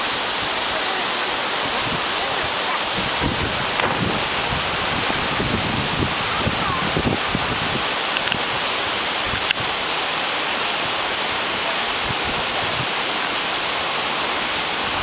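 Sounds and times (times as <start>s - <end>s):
waterfall pouring into pool: 0.0s - 15.0s.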